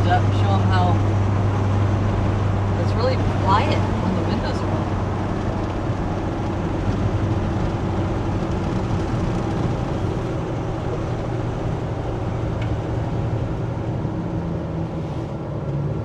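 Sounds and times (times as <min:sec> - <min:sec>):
muffled truck exhaust rumble: 0:00.0 - 0:16.0.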